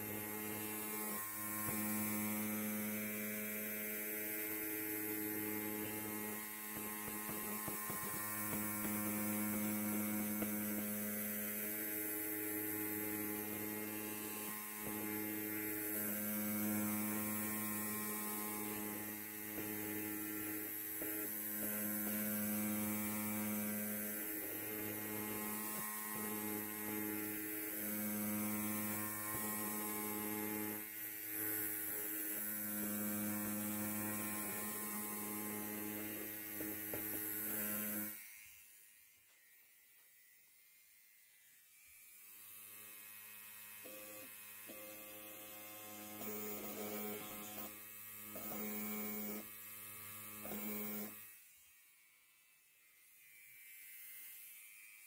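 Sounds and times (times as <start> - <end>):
electric hair clipper buzzing: 0.0 - 55.0.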